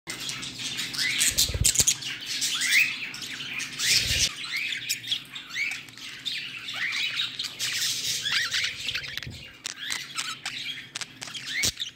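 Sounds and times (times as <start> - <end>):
budgerigars chirping: 0.1 - 11.9.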